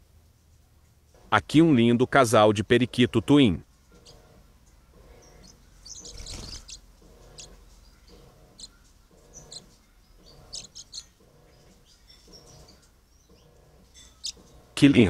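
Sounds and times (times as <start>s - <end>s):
parakeets chirping: 2.9s - 15.0s.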